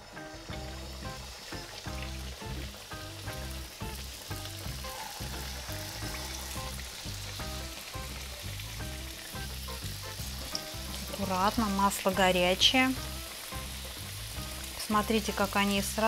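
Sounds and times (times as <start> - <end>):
background music with steady beat: 0.0 - 16.0
food sizzling in hot oil: 0.0 - 16.0.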